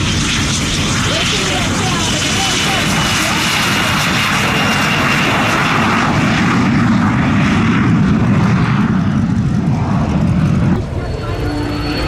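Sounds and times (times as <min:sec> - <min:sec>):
jet engines rushing whine: 0:00.0 - 0:12.0.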